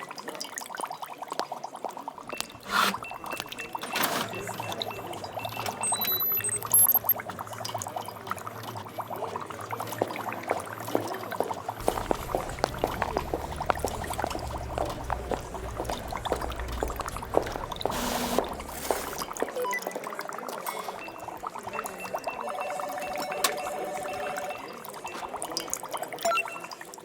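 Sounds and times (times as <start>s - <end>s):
liquid pouring and bubbling: 0.0s - 27.0s.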